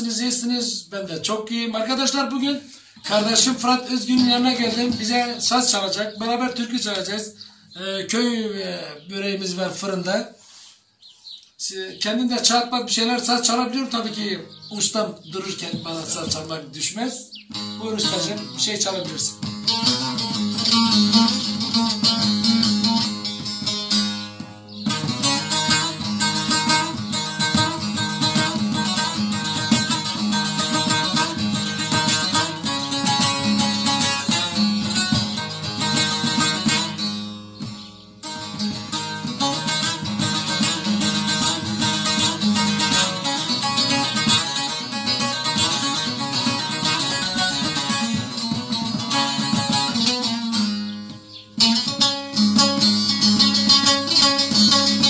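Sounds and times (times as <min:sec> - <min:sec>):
plucked lutes playing folk tune: 0:00.0 - 0:10.7, 0:11.6 - 0:55.0.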